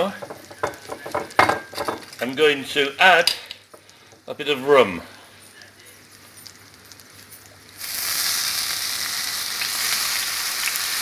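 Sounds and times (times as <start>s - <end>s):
liquid sizzling on hot dish: 0.0s - 11.0s.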